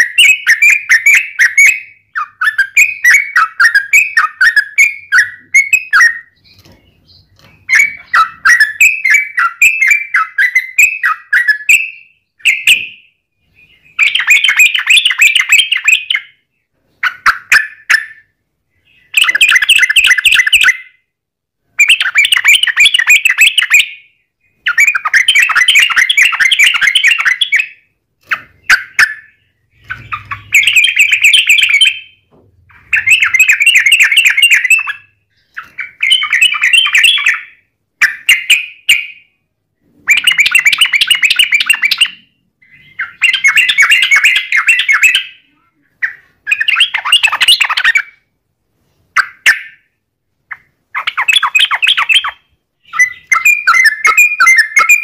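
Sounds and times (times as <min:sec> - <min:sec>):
bulbul chattering song: 0:00.0 - 0:21.1, 0:21.7 - 0:48.3, 0:49.1 - 0:55.0.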